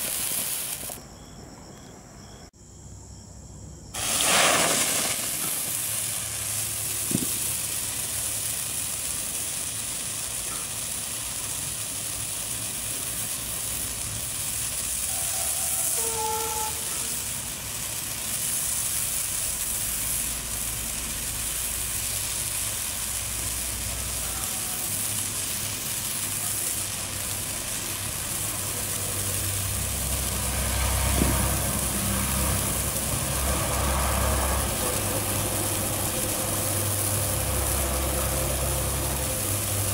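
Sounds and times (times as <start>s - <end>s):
firework stick hissing: 0.0s - 1.1s, 3.9s - 39.9s.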